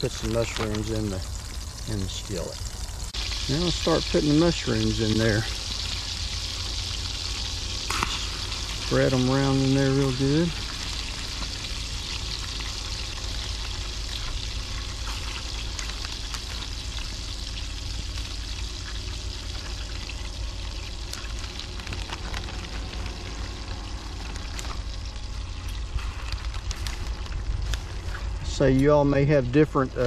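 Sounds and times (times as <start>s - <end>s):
mushrooms sizzling in skillet: 0.0s - 28.4s
low rumble: 1.2s - 30.0s.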